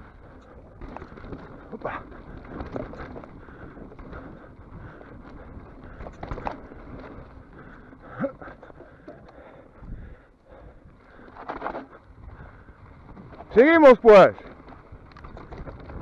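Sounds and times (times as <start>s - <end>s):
bike knocking and rattling: 0.0s - 16.0s
tyre and wind noise: 0.0s - 16.0s.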